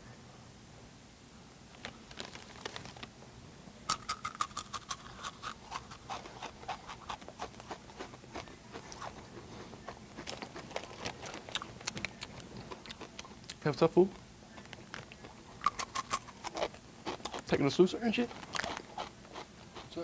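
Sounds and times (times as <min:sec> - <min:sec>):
chip bag crinkling: 0:01.7 - 0:03.2, 0:03.9 - 0:20.0
chips crunched and chewed: 0:01.8 - 0:03.1, 0:03.9 - 0:20.0.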